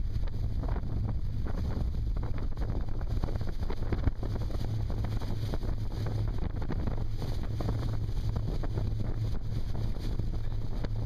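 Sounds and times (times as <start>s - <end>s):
speedboat engine: 0.0s - 11.0s
wind on microphone: 0.0s - 11.0s.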